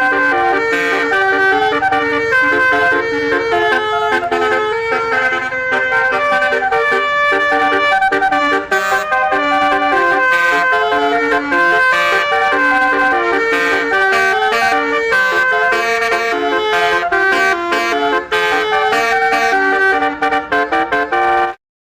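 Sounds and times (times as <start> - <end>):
multi-trumpet vehicle horn melody: 0.0 - 21.6.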